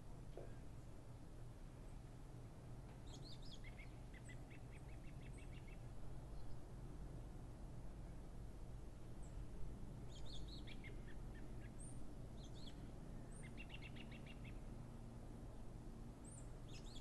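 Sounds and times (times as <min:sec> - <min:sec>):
low background noise: 0:00.0 - 0:17.0
songbirds chirping: 0:00.1 - 0:17.0.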